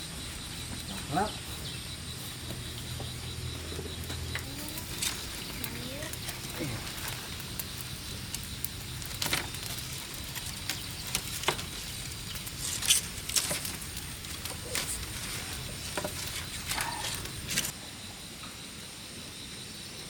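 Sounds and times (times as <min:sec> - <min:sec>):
cooking fire crackling and popping: 0:00.0 - 0:17.8.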